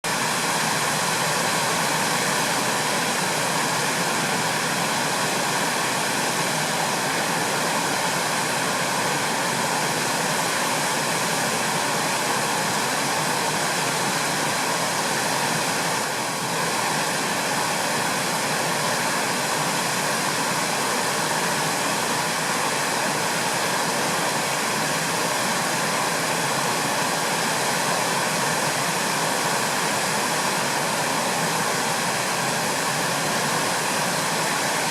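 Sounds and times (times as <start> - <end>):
rushing flowing water: 0.1 - 34.9.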